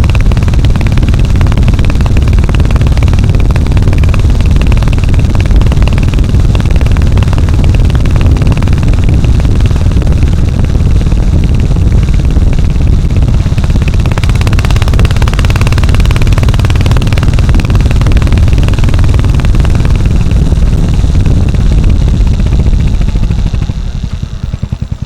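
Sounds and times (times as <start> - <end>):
motorcycle engine and exhaust running: 0.0 - 25.0.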